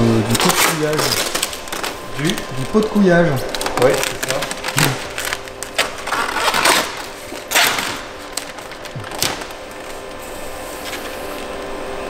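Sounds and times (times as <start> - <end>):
plastic film crinkling: 0.0 - 11.6.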